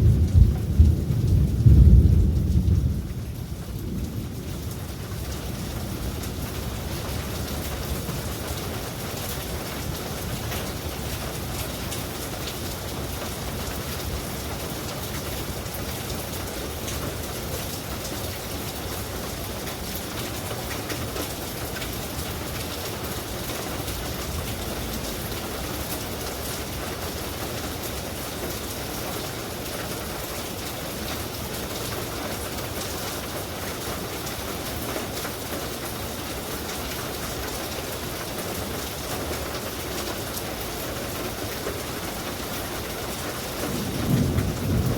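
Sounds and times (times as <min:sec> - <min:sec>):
heavy rain patter: 0:00.0 - 0:44.9.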